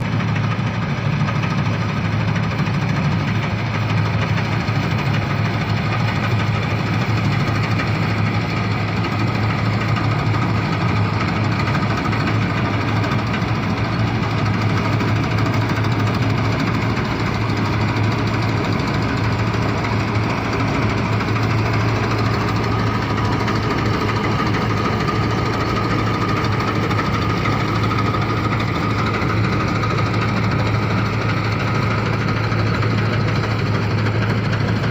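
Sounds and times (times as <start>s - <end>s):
combine harvester engine running: 0.0s - 34.9s.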